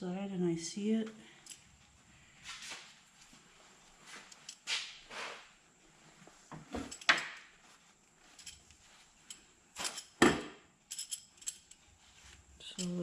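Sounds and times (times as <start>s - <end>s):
rustling: 1.2s - 10.2s, 10.9s - 13.0s.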